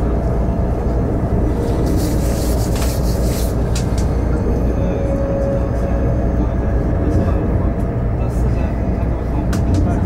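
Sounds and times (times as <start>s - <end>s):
train rumble with rushing hiss: 0.0s - 10.0s.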